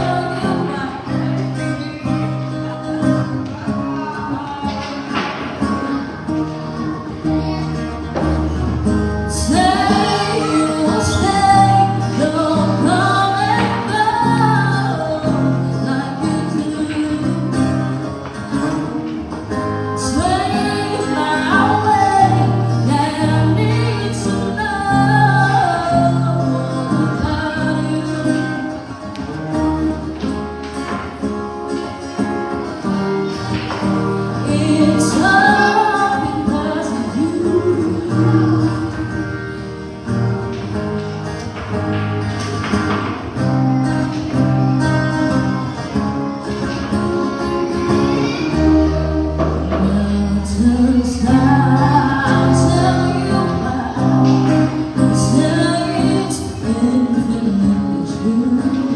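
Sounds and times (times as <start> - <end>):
woman singing into a microphone: 0.0 - 6.2, 6.8 - 30.9, 32.7 - 40.2, 47.4 - 58.9
acoustic guitar: 0.0 - 58.9.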